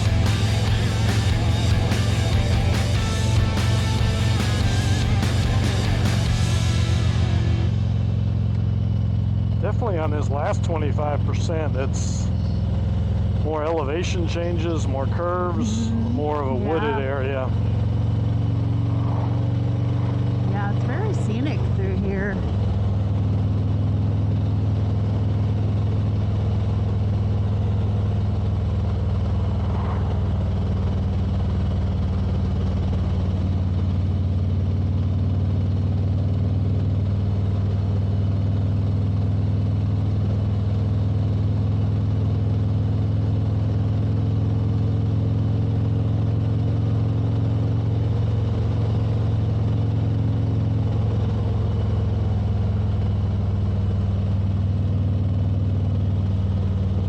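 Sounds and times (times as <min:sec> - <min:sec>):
motorcycle engine cruising: 0:00.0 - 0:57.0
road noise: 0:00.0 - 0:57.0.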